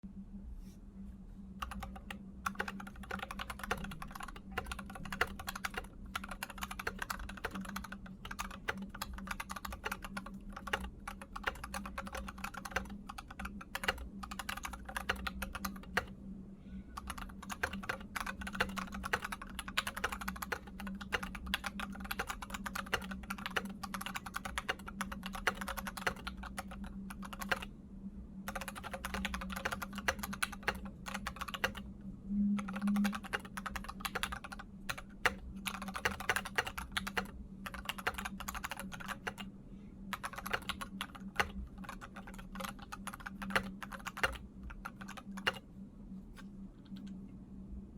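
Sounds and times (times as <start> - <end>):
low hum: 0.0 - 47.9
mechanical keyboard typing: 1.6 - 16.1, 17.0 - 27.7, 28.5 - 31.9, 32.6 - 39.4, 40.1 - 45.6.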